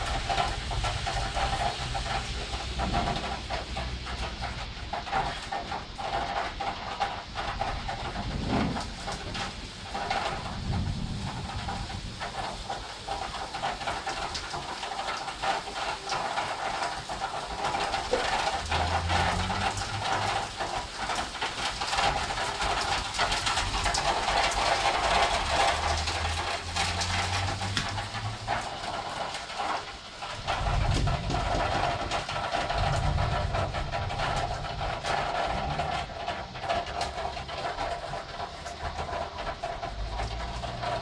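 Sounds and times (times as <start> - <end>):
heavy rain hissing: 0.0 - 41.0
raindrops pattering on window: 0.0 - 41.0.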